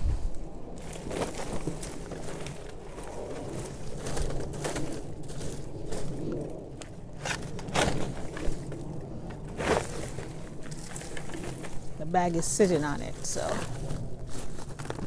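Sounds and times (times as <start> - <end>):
vines rustling and scraping: 0.0 - 15.0.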